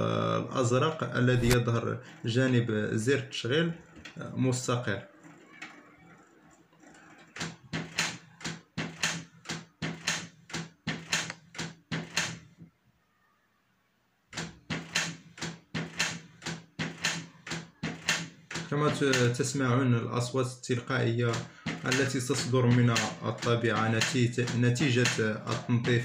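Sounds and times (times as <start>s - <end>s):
printer mechanism clacking: 1.4s - 12.6s, 14.3s - 19.7s, 20.8s - 26.0s.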